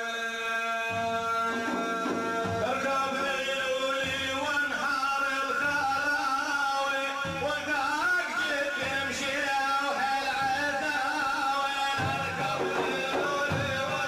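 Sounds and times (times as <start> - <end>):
man singing religious praise: 0.0 - 14.0.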